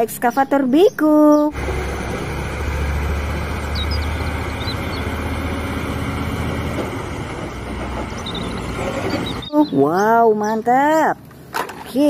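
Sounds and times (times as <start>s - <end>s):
truck diesel engine droning: 0.0s - 11.5s.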